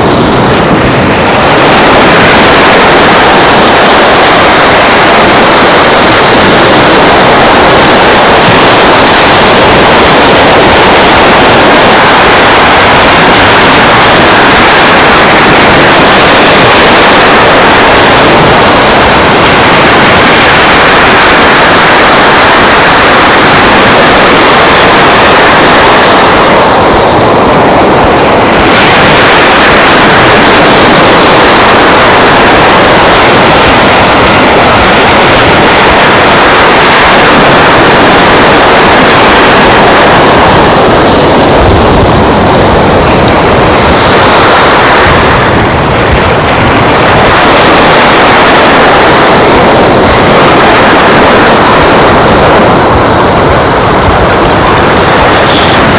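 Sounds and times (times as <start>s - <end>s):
surf rushing: 0.0s - 55.9s
wind: 0.0s - 55.9s.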